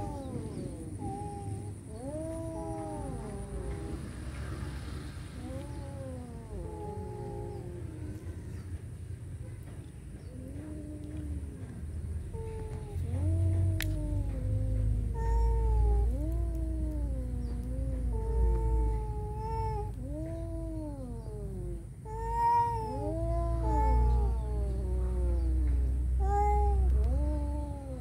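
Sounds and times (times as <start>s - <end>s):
cats yowling: 0.0s - 28.0s
low steady rumble: 0.0s - 28.0s.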